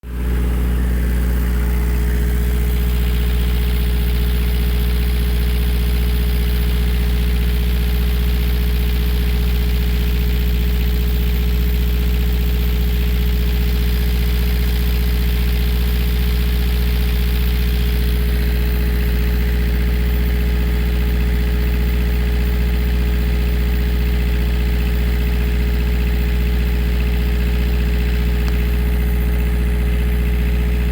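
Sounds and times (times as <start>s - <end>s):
generator running: 0.0s - 30.9s.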